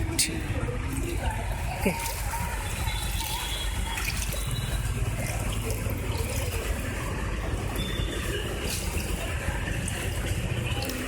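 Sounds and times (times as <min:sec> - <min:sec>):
water trickling and sloshing: 0:00.0 - 0:11.0.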